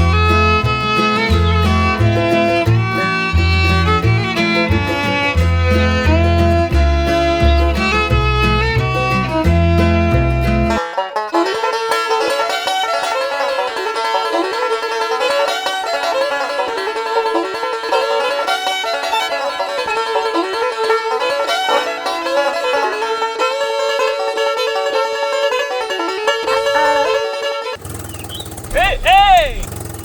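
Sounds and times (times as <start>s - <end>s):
bluegrass plucked-string tune: 0.0s - 29.6s.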